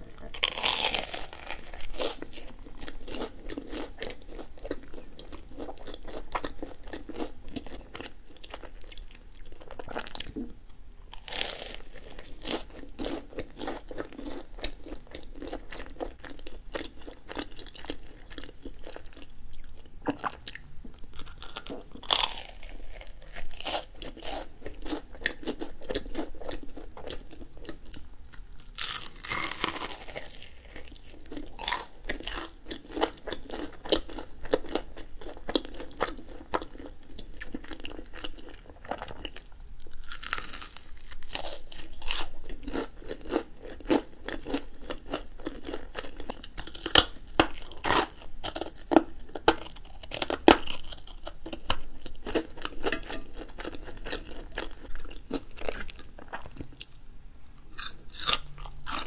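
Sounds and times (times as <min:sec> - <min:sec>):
chewing and crunching: 0:00.2 - 0:10.5, 0:11.1 - 0:57.0, 0:57.7 - 0:59.0.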